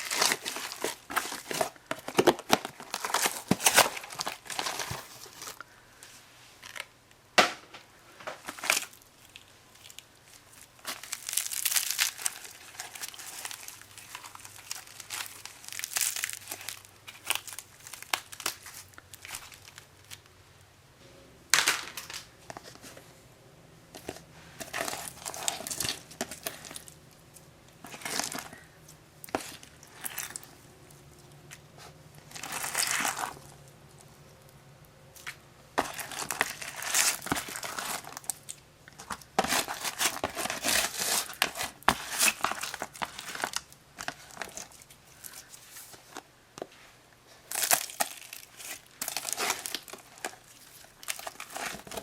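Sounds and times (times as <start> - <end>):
crunchy slime crackling: 0.0 - 5.6, 8.4 - 20.3, 24.0 - 34.5, 35.1 - 46.3, 47.5 - 52.0.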